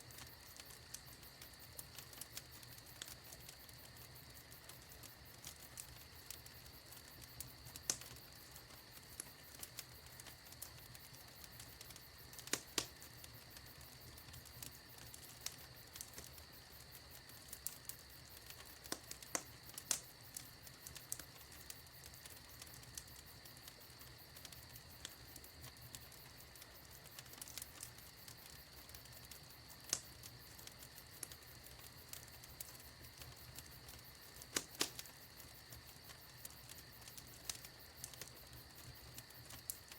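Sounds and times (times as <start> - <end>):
faint fire hiss: 0.0 - 39.9
wood fire crackling: 0.0 - 39.9.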